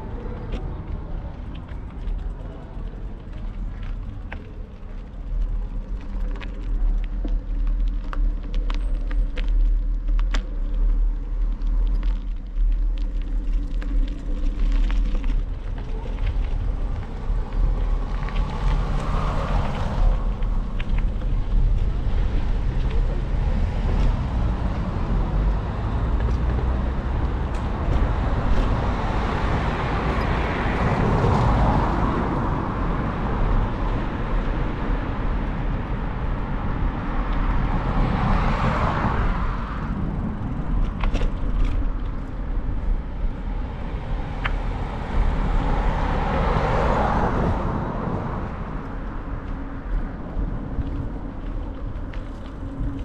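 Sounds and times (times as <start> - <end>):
cars passing: 0.0 - 53.0
low traffic rumble: 0.0 - 53.0.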